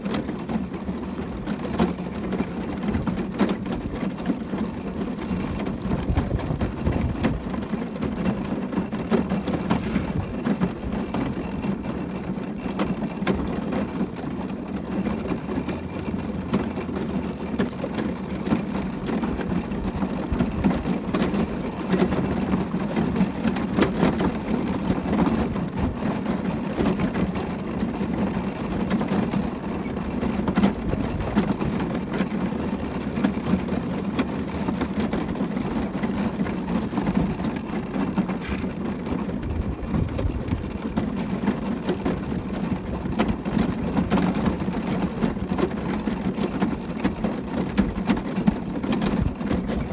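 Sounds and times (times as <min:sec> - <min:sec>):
carriage and harness rattles: 0:00.0 - 0:49.9
carriage wheels rumbling: 0:00.0 - 0:49.9
horse hoofbeats: 0:00.0 - 0:49.9.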